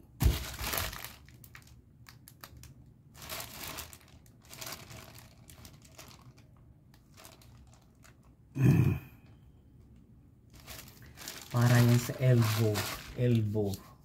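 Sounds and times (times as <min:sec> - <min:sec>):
plastic packaging crinkling: 0:00.2 - 0:08.4, 0:10.5 - 0:13.8.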